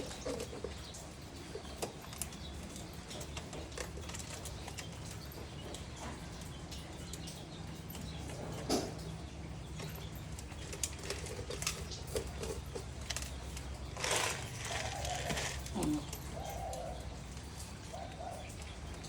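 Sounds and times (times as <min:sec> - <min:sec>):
pigeons pecking: 0:00.0 - 0:19.0.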